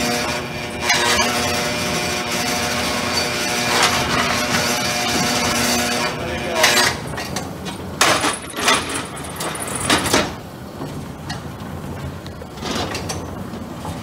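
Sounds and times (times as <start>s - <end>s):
roaster drum rumbling: 0.0s - 14.0s.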